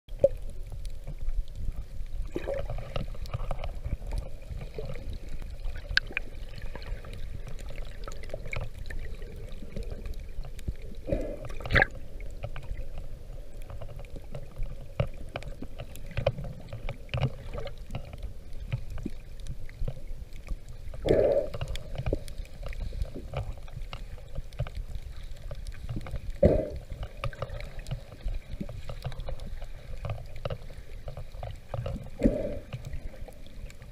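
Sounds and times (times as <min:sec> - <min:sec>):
small underwater clicks: 0:00.1 - 0:33.9
underwater rumble of moving water: 0:00.1 - 0:33.9.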